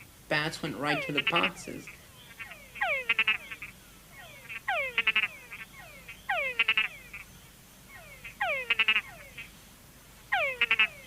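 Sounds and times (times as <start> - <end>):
frog whine and chuck calls: 0.8 - 9.6, 10.3 - 11.0.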